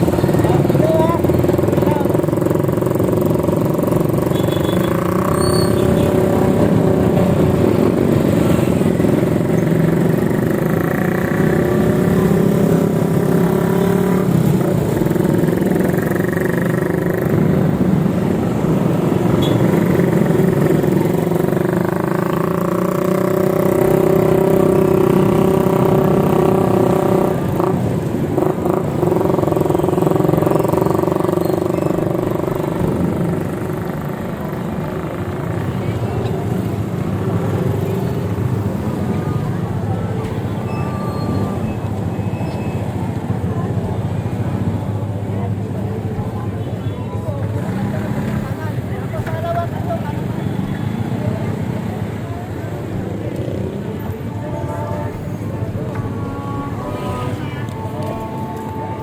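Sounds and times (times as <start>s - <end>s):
vehicle engines running: 0.0s - 59.0s.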